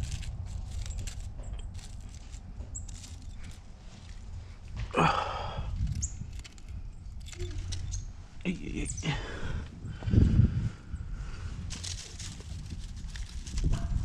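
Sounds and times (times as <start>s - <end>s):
hand rustling rocks and leaves: 0.0s - 9.3s, 11.5s - 14.0s
wind rumble on microphone: 0.0s - 14.0s.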